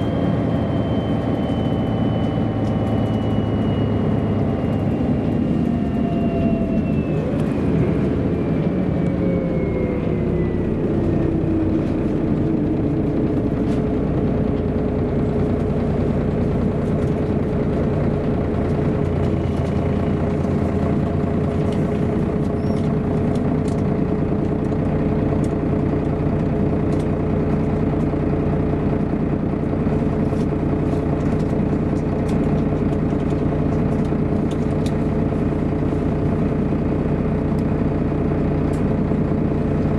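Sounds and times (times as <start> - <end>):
bus engine whine: 0.0 - 39.9
road rumble: 0.0 - 39.9.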